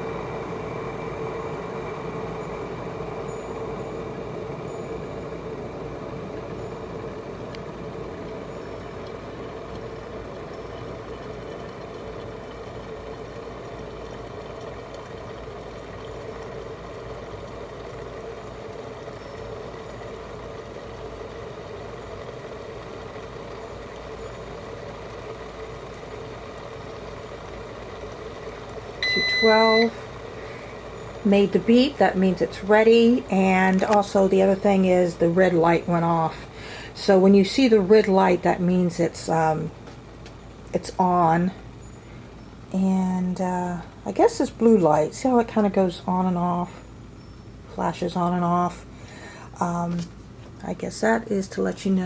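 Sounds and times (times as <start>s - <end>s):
kettle water heating: 0.0s - 46.6s.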